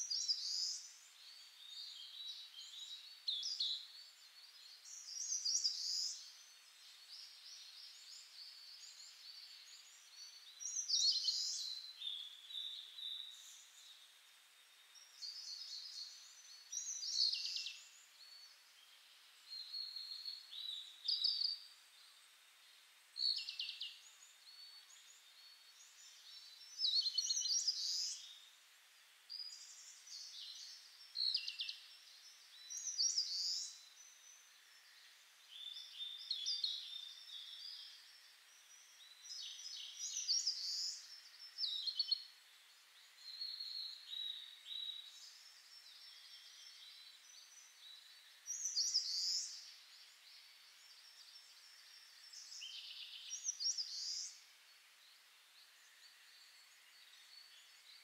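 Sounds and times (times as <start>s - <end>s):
faint steady hiss: 0.0s - 58.0s
songbird chirping: 0.0s - 58.0s.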